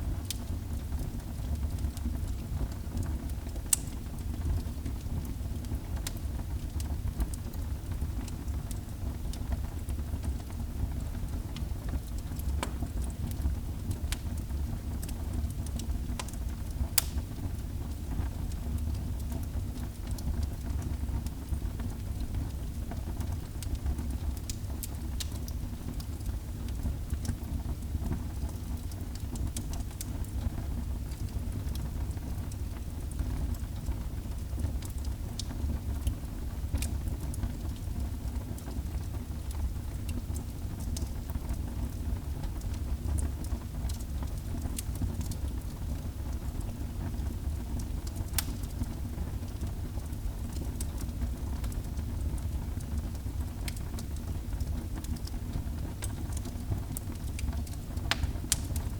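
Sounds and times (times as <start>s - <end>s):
wood fire crackling and popping: 0.1s - 58.9s.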